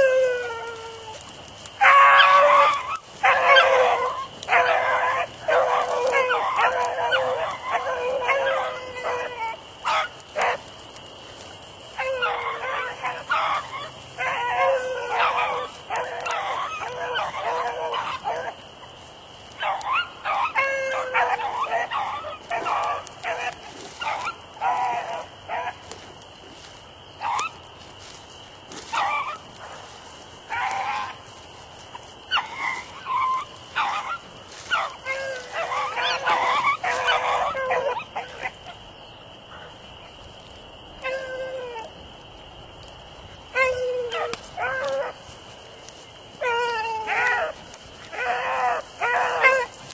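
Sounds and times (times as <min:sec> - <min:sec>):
hounds baying and barking: 0:00.0 - 0:49.9.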